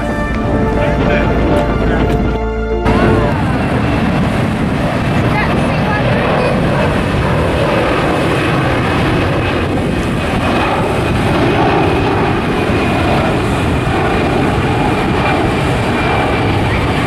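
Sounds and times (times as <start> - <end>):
jet plane flying overhead: 0.0 - 17.0.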